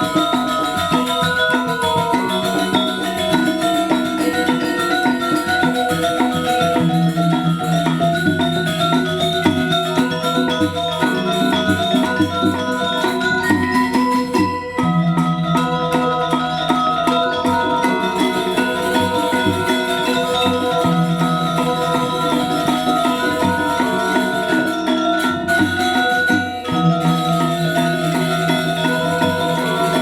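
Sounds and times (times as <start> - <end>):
gamelan metallophones ringing: 0.0 - 30.0
low sustained tones: 0.0 - 30.0.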